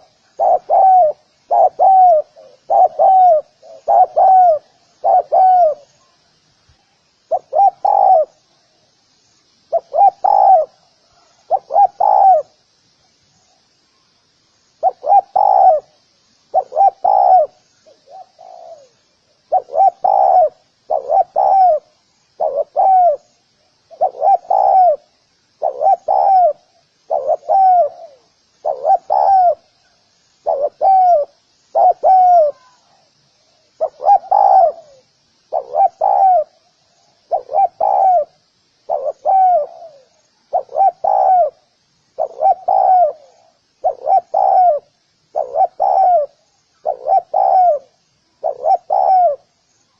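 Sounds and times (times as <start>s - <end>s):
dove cooing: 0.0s - 6.2s, 7.3s - 8.4s, 9.7s - 12.6s, 14.8s - 23.3s, 23.9s - 33.0s, 33.8s - 49.5s
faint high hiss: 0.0s - 49.9s.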